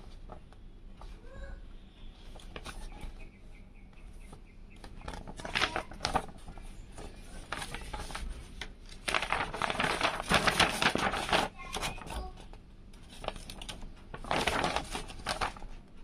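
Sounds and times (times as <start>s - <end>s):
paper pages rustling and crackling: 2.2s - 3.3s, 4.2s - 16.0s.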